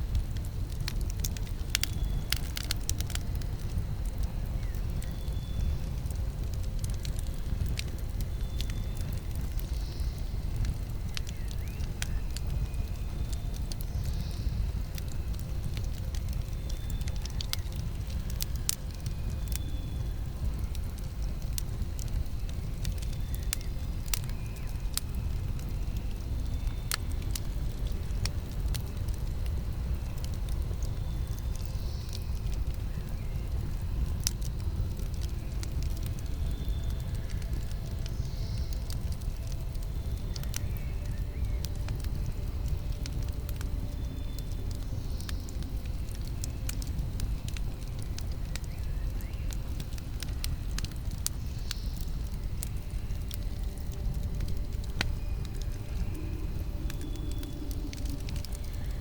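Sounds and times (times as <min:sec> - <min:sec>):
campfire wood crackling: 0:00.0 - 0:59.0
fire popping: 0:00.0 - 0:59.0
low fire rumble: 0:00.0 - 0:59.0.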